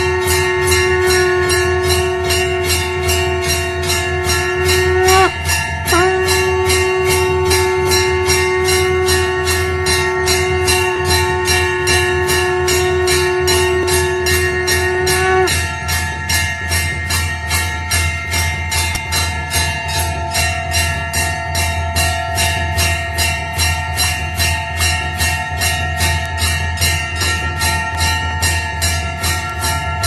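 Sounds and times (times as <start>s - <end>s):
temple bells ringing fast: 0.0s - 30.0s.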